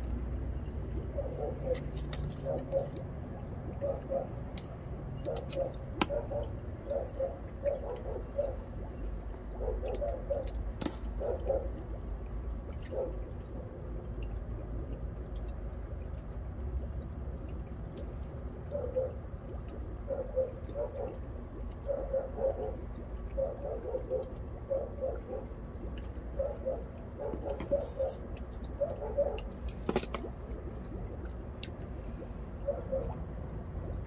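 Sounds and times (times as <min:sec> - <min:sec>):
low steady rumble: 0:00.0 - 0:34.0
water gurgling and trickling: 0:00.0 - 0:34.0.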